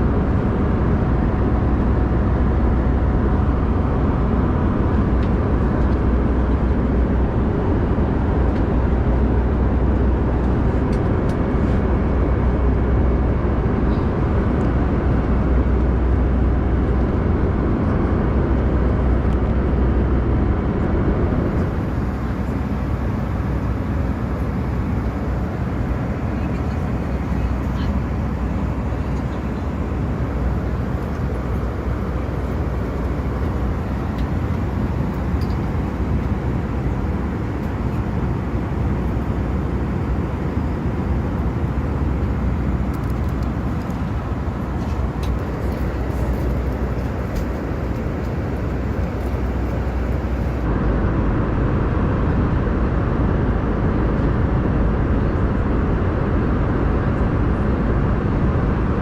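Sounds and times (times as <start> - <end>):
airliner cabin engine rush: 0.0 - 59.0.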